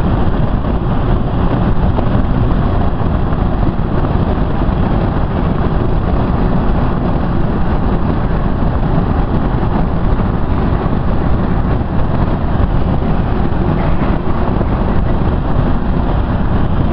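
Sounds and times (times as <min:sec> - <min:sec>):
car cabin road noise: 0:00.0 - 0:16.9.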